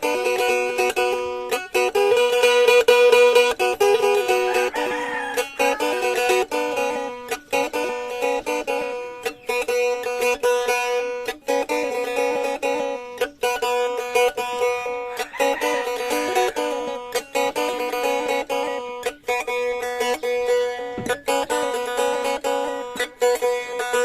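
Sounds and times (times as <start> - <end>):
plucked lute melody with drone: 0.0 - 24.0.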